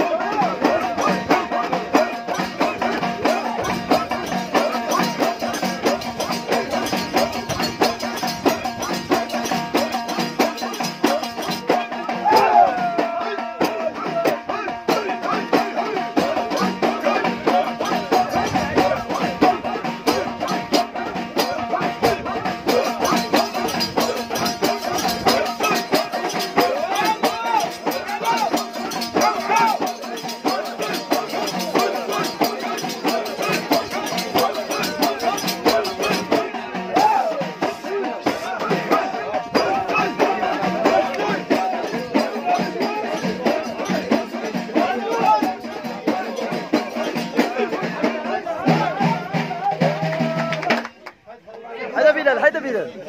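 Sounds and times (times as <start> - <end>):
men chanting: 0.0 - 50.9
rapid dense percussion: 0.0 - 51.0.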